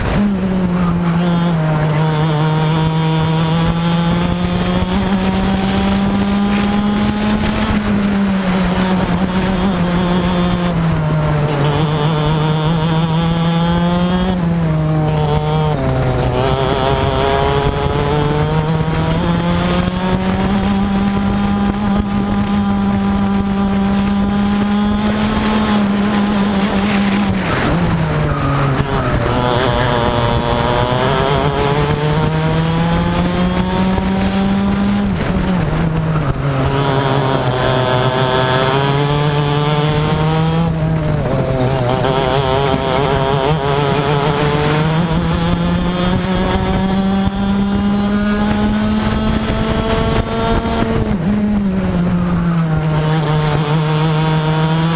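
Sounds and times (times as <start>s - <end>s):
kart engine at full throttle: 0.0s - 54.9s.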